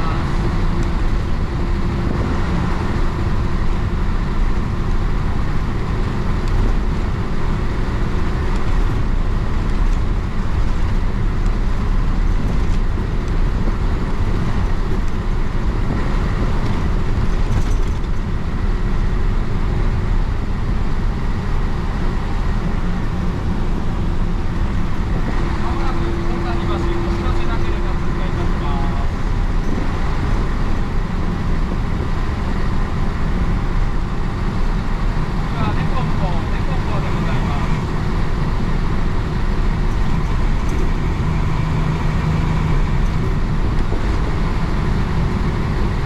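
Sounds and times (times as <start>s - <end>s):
bus diesel engine running: 0.0s - 46.0s.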